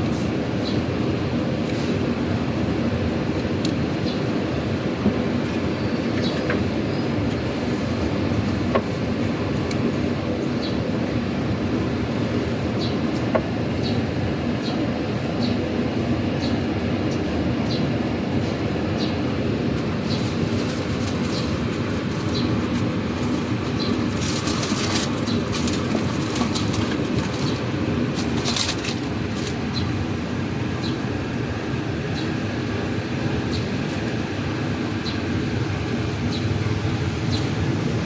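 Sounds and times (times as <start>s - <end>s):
machine running with hum: 0.0s - 38.0s.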